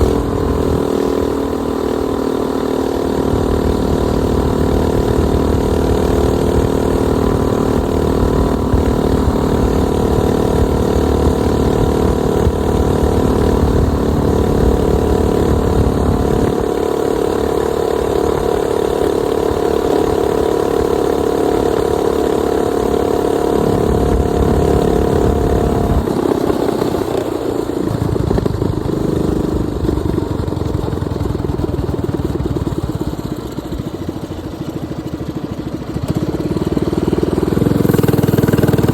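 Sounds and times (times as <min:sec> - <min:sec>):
minibike engine revving: 0:00.0 - 0:38.9.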